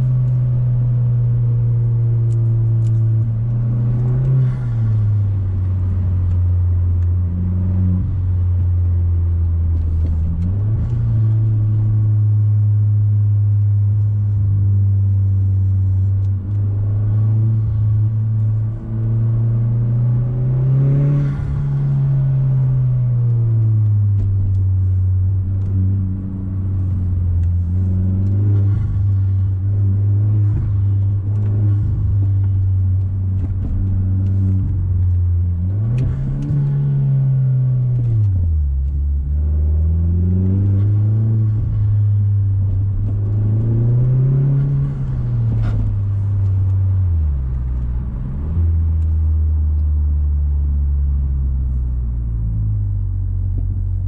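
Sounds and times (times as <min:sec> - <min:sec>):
car engine drone from cabin: 0:00.0 - 0:54.0.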